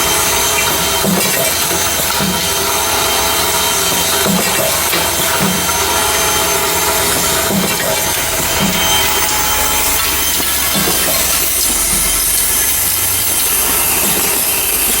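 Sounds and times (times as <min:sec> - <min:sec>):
drilling machine running: 0:00.0 - 0:15.0.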